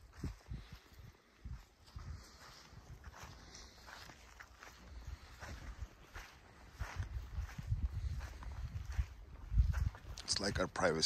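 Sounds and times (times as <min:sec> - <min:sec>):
footsteps crunching: 0:00.0 - 0:11.0.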